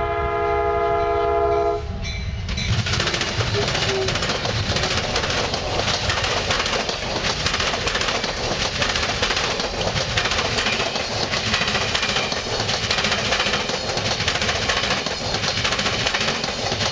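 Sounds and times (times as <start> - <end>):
diesel locomotive passing: 0.0 - 16.9
train wheels clattering on rails: 1.6 - 16.9.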